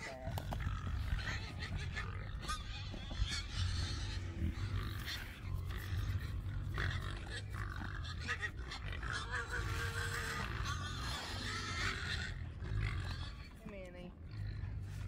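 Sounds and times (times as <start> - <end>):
pigs grunting: 0.0 - 15.0.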